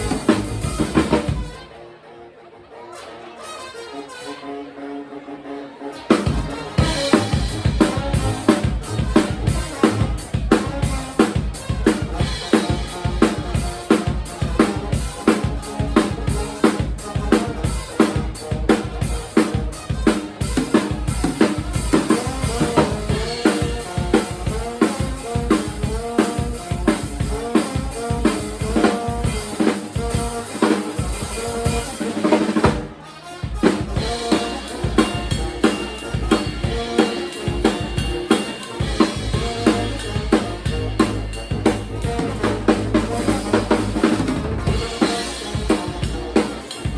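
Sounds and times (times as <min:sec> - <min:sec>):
drum kit with rimshots: 0:00.0 - 0:01.7, 0:06.1 - 0:46.9
live band playing: 0:00.0 - 0:46.9.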